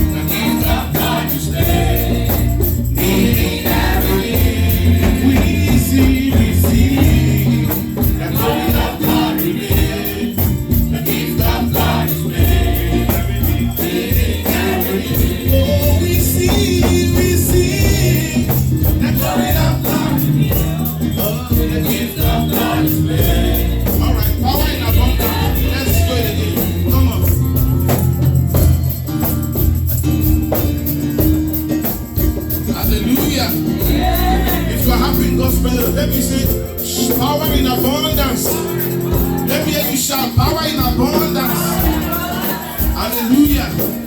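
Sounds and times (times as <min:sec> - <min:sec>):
choir singing: 0:00.0 - 0:27.8, 0:33.1 - 0:40.4, 0:41.1 - 0:44.0
bass and drums: 0:00.0 - 0:39.6
shaker or tambourine: 0:00.0 - 0:44.0.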